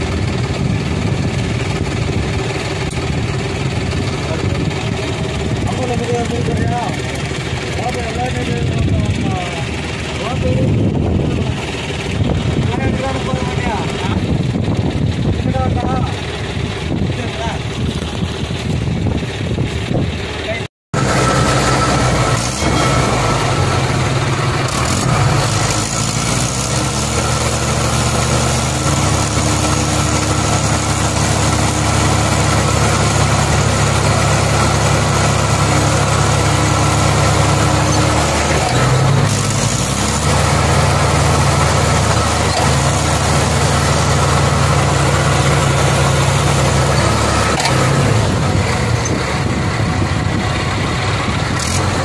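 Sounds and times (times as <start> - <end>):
tractor diesel engine revving: 0.0 - 52.0.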